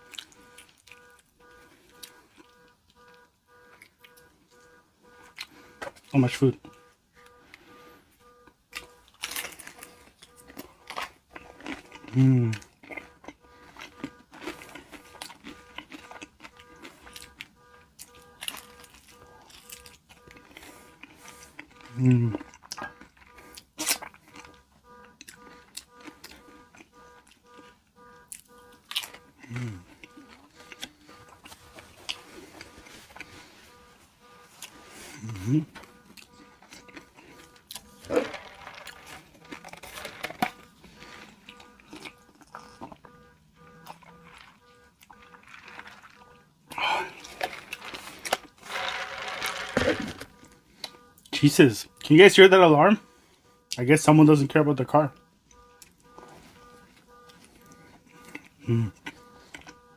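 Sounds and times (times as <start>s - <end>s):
chewing food with crunches: 0.0s - 59.9s
faint electronic beeps: 0.0s - 59.9s.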